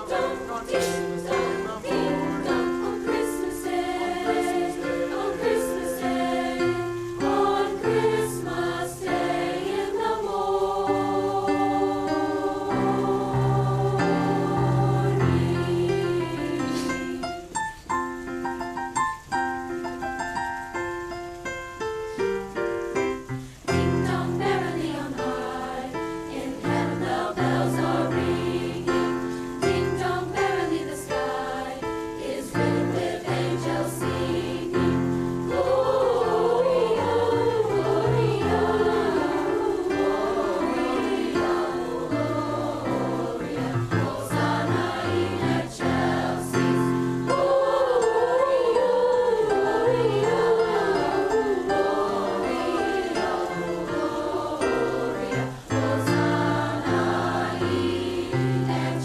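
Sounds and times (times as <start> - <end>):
choir singing: 0.0 - 17.5, 23.6 - 59.0
piano accompaniment: 0.0 - 59.0.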